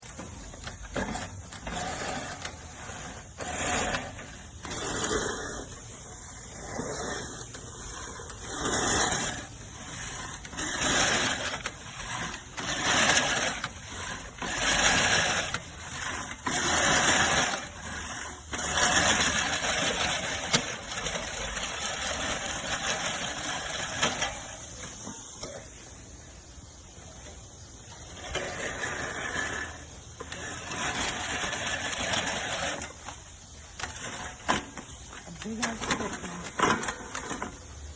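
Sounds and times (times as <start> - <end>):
push reel mower cutting grass: 0.0 - 37.9.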